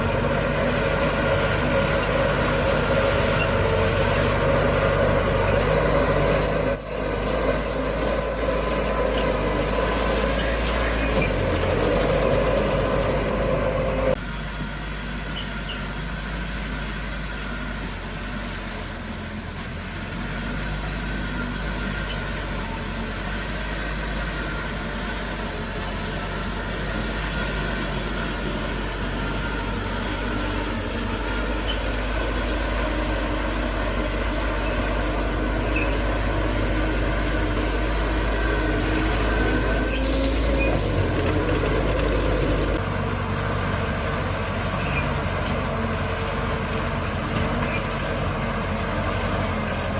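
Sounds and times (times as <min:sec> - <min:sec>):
diesel machinery rumbling: 0:00.0 - 0:49.9.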